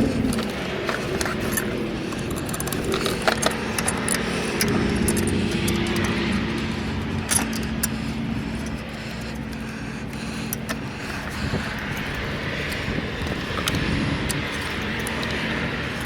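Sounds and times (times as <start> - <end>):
metallic clicks and clinks: 0.0 - 15.4
car engine idling: 0.0 - 16.0.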